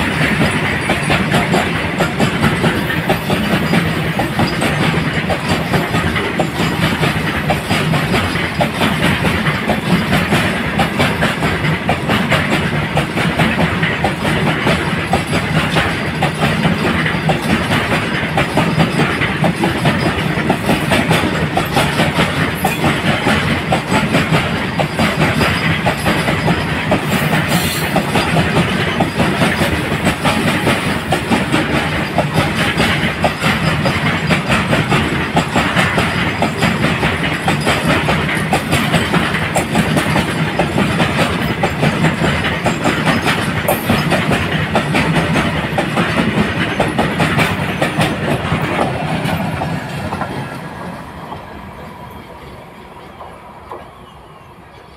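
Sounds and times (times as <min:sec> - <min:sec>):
train wheels clattering over rail joints: 0:00.0 - 0:51.6.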